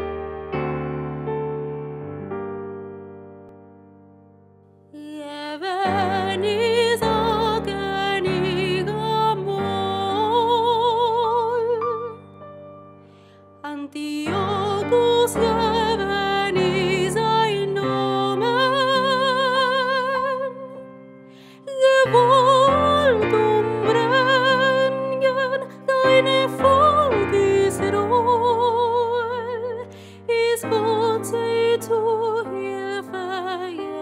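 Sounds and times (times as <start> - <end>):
digital piano chords: 0.0 - 4.9, 5.8 - 34.0
woman singing classical style: 5.0 - 12.4, 13.5 - 34.0.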